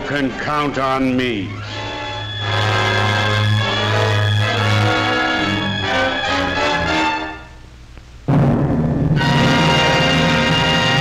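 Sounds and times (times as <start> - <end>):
orchestral sustained chords: 1.0 - 7.7, 8.3 - 11.0.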